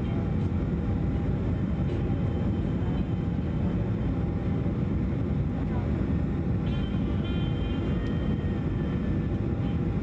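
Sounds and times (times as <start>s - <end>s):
faint steady whine: 0.0s - 10.0s
jet engine and airflow rumble: 0.0s - 10.0s.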